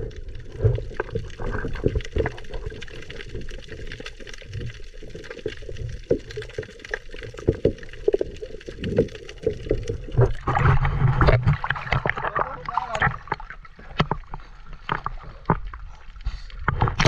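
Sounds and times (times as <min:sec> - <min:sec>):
muffled underwater rumble: 0:00.0 - 0:17.0
underwater clicks and knocks: 0:00.0 - 0:17.0
water rushing: 0:00.0 - 0:17.0.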